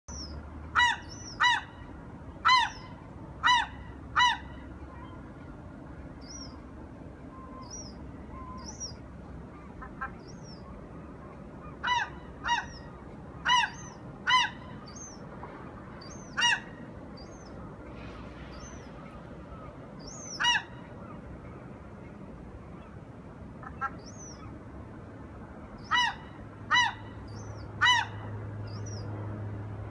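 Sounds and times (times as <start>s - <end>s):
gulls calling: 0.1s - 6.6s, 7.2s - 24.6s, 25.8s - 29.1s.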